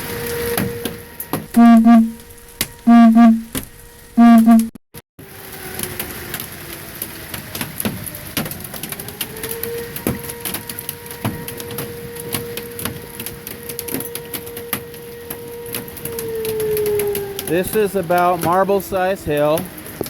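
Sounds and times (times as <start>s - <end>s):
tornado warning siren: 0.0s - 20.0s.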